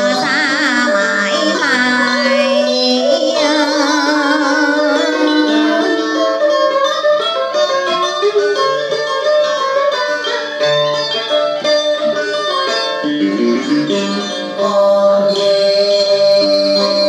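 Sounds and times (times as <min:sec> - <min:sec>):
plucked strings instrumental: 0:00.0 - 0:17.0.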